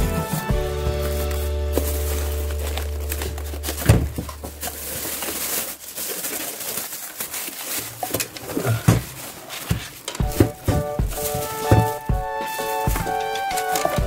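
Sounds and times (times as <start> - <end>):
handling knocks: 0.0 - 5.7, 7.3 - 14.0
plastic bag crinkling: 0.6 - 14.0.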